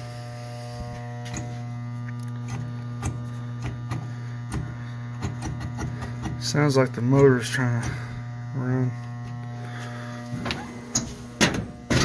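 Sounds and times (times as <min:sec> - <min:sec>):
stalled motor electrical hum: 0:00.0 - 0:12.0.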